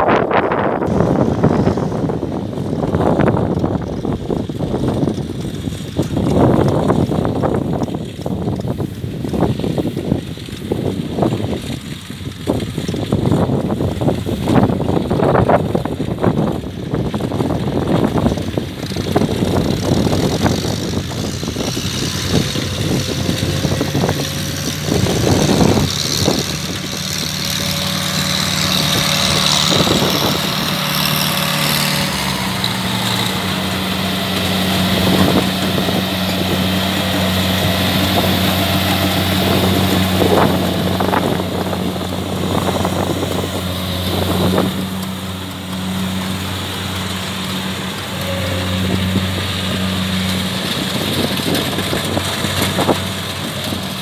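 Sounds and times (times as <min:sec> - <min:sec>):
farm machinery engine running: 0:00.0 - 0:54.0
knocks and clatter: 0:00.8 - 0:54.0.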